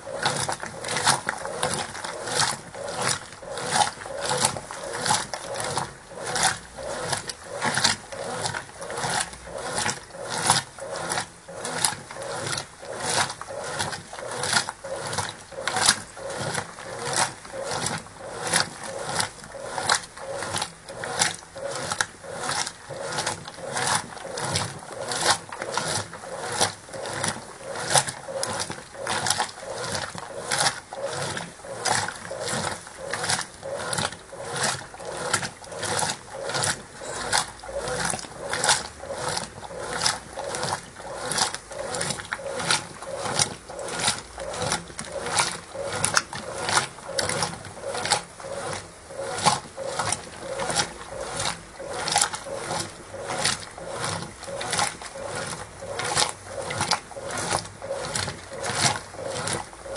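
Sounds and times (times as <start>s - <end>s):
washing machine agitator sloshing: 0.0s - 59.9s.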